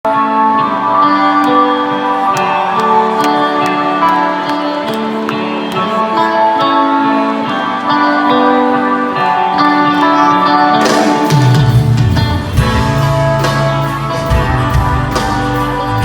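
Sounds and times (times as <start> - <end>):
electric guitar: 0.1 - 16.0
live band music: 0.1 - 16.0.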